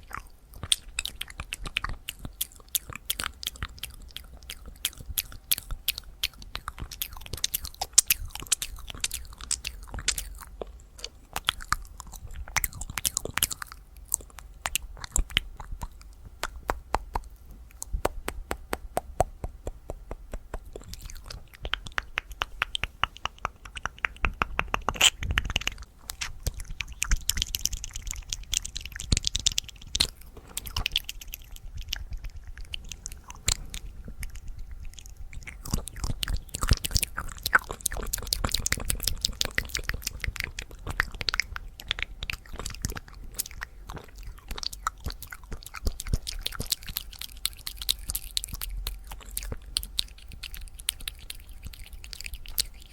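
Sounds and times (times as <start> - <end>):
tongue and lip clicks: 0.0 - 52.9.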